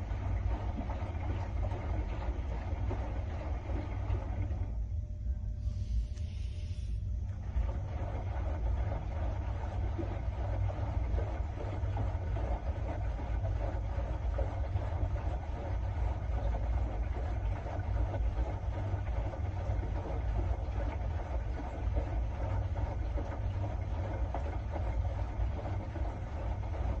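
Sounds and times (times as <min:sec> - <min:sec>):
low mechanical rumble: 0:00.0 - 0:27.0.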